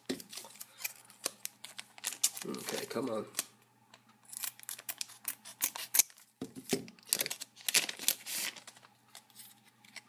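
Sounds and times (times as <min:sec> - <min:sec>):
plastic wrapper crinkling: 0:00.1 - 0:03.5, 0:04.4 - 0:09.5.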